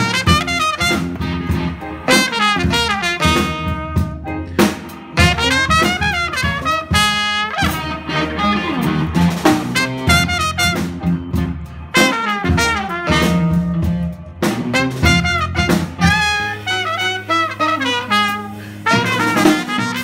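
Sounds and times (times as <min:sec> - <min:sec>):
bass: 0:00.0 - 0:20.0
drums: 0:00.0 - 0:20.0
electric guitar: 0:00.0 - 0:20.0
trumpet and saxophone melody: 0:00.0 - 0:20.0.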